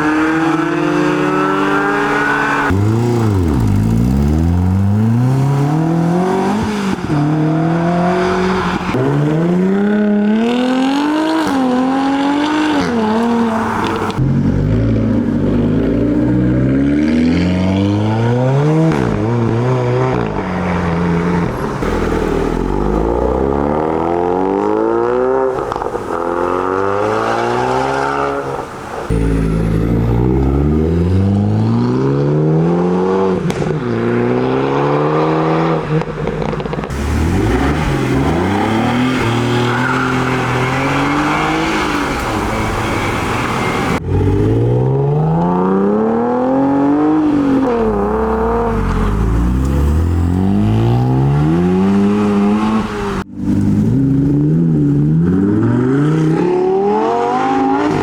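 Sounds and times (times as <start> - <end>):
performance car engines accelerating: 0.0 - 58.0.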